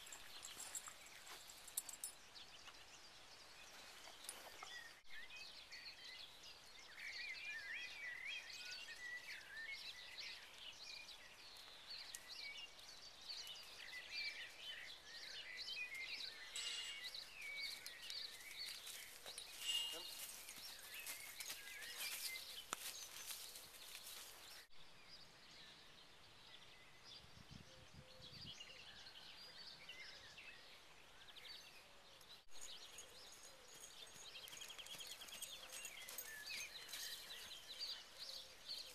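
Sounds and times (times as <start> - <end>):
faint outdoor background noise: 0.0 - 38.9
songbirds chirping: 0.0 - 38.9.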